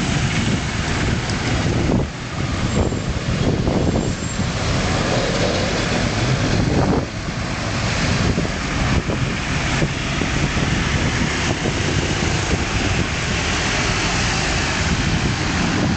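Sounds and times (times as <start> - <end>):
road traffic rumble: 0.0 - 15.9
wind buffeting microphone: 0.0 - 15.9.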